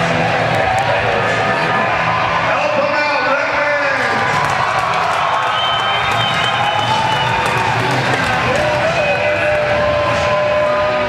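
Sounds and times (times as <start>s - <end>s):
crowd cheering and shouting: 0.0s - 11.0s.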